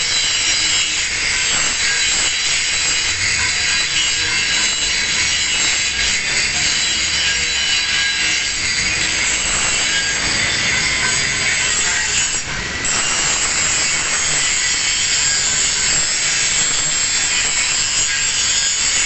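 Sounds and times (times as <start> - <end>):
angle grinder grinding metal: 0.0 - 19.0.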